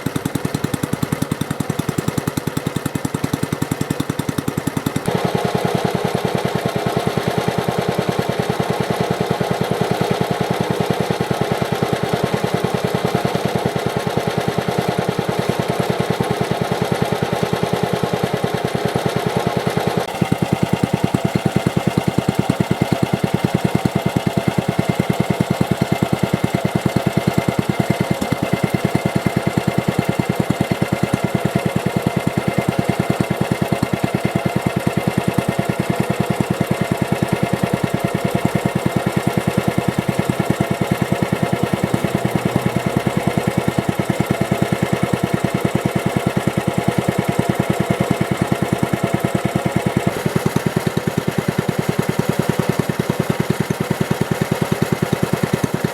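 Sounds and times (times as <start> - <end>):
kerosene engine running: 0.0 - 55.9.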